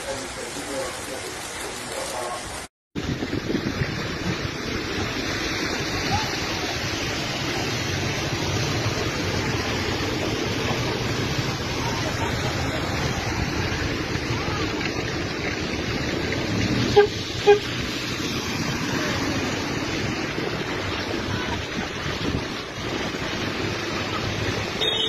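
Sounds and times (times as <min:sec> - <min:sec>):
heavy rain and hail: 0:00.0 - 0:25.0.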